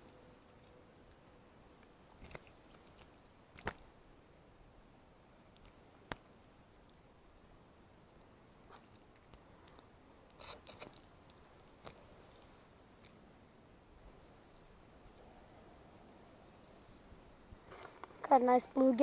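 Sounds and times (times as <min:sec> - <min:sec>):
high-pitched insect chorus: 0:00.0 - 0:19.0
higher insect trill: 0:00.0 - 0:19.0.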